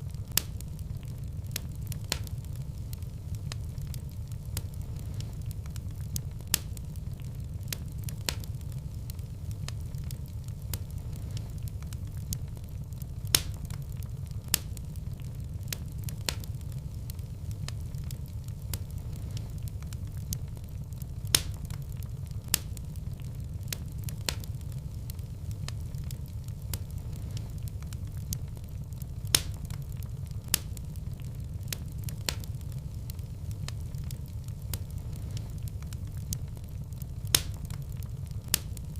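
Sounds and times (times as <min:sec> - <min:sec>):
fire crackling: 0:00.0 - 0:38.9
fire popping: 0:00.0 - 0:38.9.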